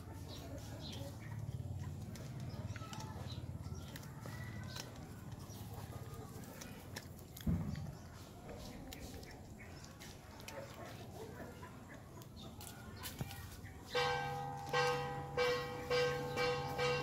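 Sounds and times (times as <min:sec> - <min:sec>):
puppies chewing and crunching: 0:00.0 - 0:17.0.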